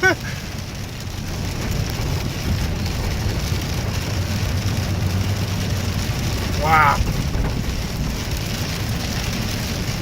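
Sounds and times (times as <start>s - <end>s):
engine and road rumble: 0.0s - 10.0s
rain hissing on car: 0.0s - 10.0s.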